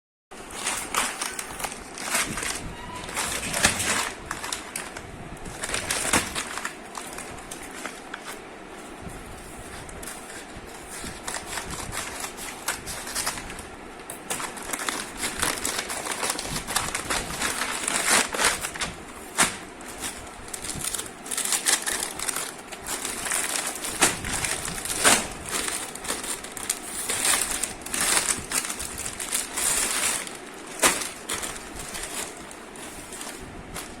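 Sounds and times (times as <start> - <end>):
plastic packaging crinkling: 0.4 - 34.0.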